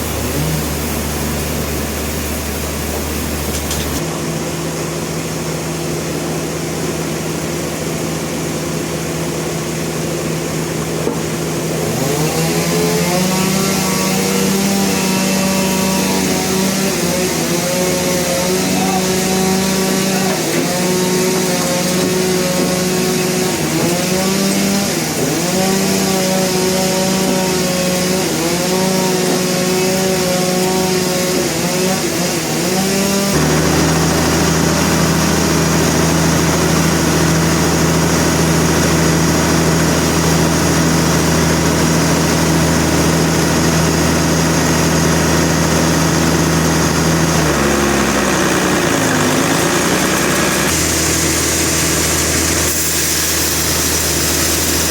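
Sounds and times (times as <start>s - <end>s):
deep engine drone: 0.0s - 54.9s
engine-driven saw running: 0.0s - 54.9s.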